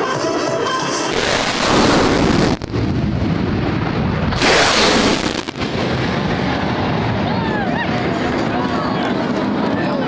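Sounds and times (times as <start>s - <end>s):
fighter jets flying low past: 1.2s - 10.0s.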